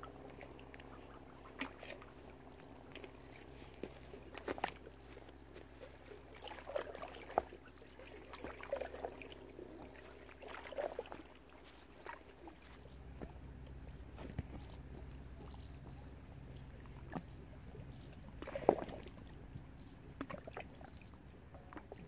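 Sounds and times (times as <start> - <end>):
small water splashes: 0.0 - 22.0.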